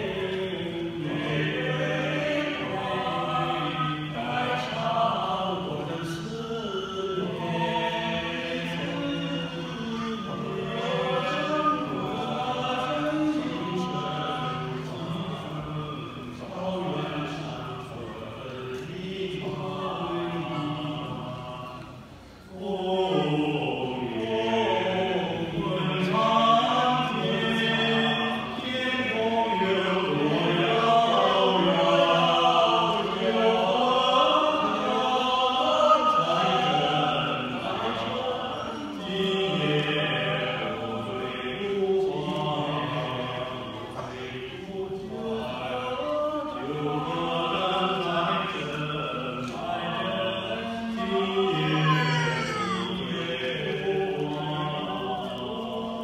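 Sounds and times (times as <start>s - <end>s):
male vocal group singing: 0.0s - 56.0s.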